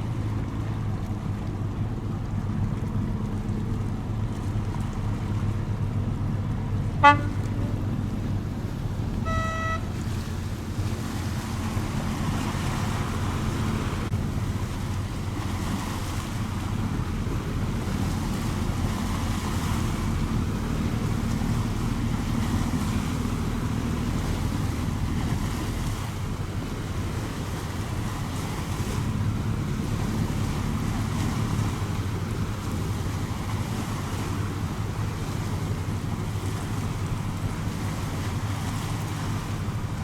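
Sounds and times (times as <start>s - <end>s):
boat engine droning: 0.0s - 40.0s
water washing: 0.0s - 40.0s.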